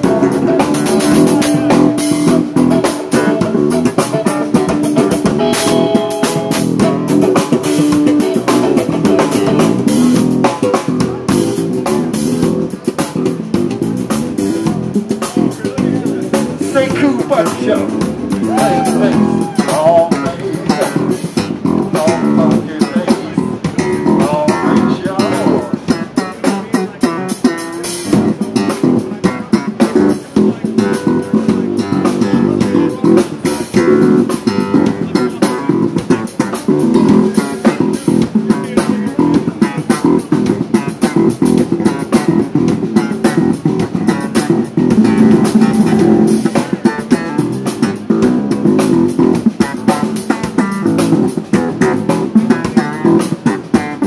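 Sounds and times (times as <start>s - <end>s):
drum kit: 0.0s - 54.0s
electric bass: 0.0s - 54.0s
electric guitar: 0.0s - 54.0s.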